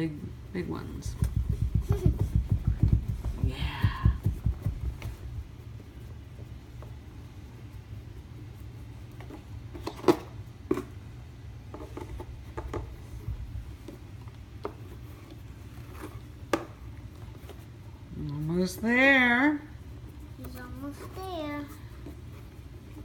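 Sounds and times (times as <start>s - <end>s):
steady low hum: 0.0s - 9.7s, 12.2s - 23.0s.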